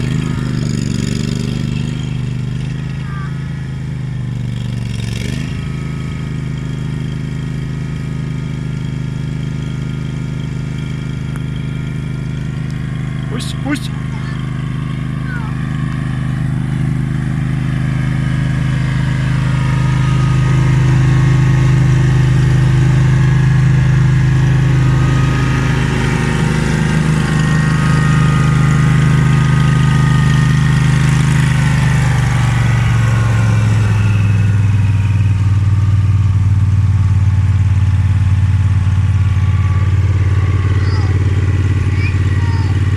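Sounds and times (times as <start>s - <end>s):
mower engine running: 0.0s - 42.9s.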